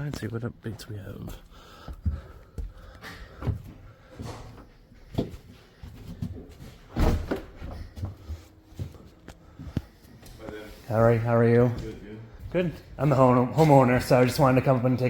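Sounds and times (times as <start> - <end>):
footsteps: 0.0 - 14.6.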